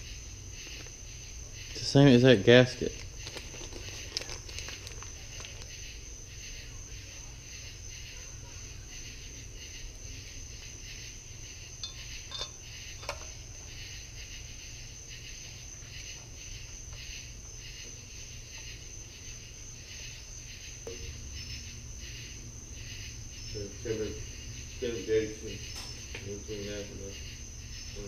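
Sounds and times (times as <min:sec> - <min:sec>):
constant high whine: 0:00.0 - 0:28.0
insects chirping: 0:00.0 - 0:28.0.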